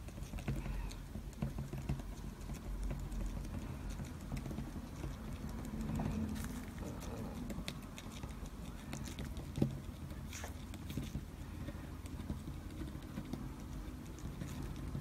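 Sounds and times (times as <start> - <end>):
brush tapping: 0.0 - 15.0
low steady hum: 0.0 - 15.0.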